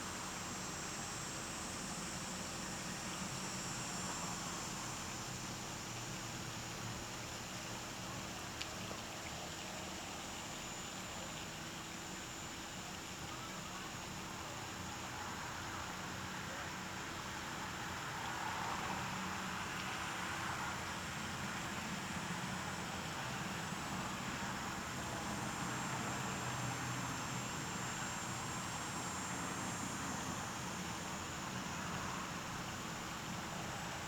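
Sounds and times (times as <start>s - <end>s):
white noise hiss: 0.0s - 34.0s.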